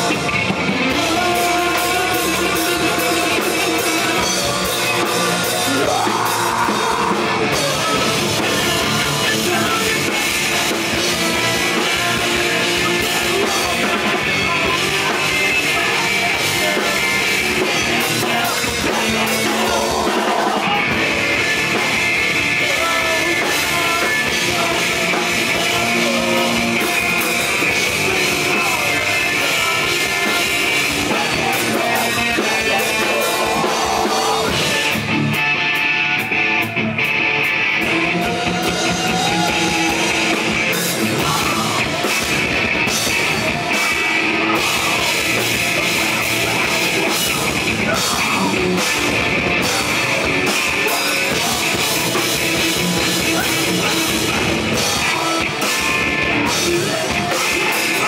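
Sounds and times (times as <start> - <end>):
person singing: 0.0 - 37.0, 37.8 - 58.0
drum kit: 0.0 - 58.0
electric guitars: 0.0 - 58.0.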